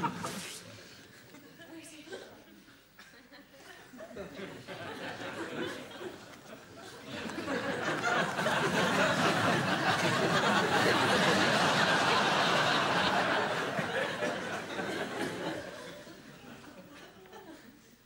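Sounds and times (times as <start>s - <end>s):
studio audience laughing: 0.0s - 0.8s, 3.0s - 17.7s.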